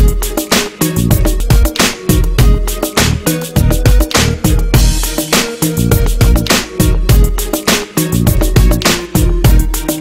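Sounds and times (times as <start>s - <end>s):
funky music with bass and drums: 0.0s - 10.0s.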